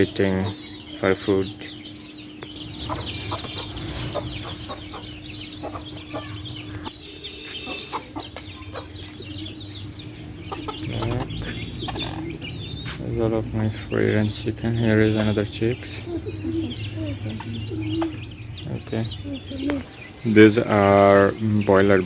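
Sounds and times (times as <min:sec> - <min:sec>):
chicks peeping and clucking: 0:00.0 - 0:22.0.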